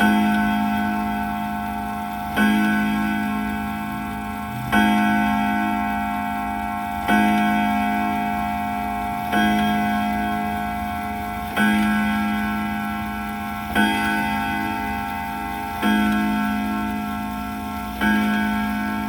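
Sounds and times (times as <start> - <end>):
grandfather clock striking: 0.0 - 19.0.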